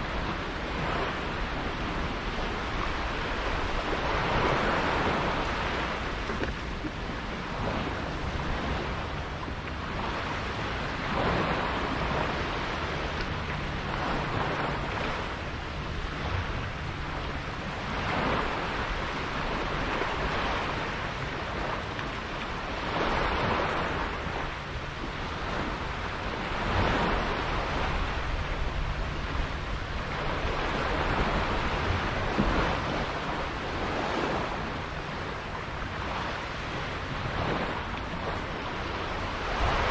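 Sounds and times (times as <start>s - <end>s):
sea water rushing and splashing: 0.0s - 39.9s
wind buffeting microphone: 0.0s - 39.9s.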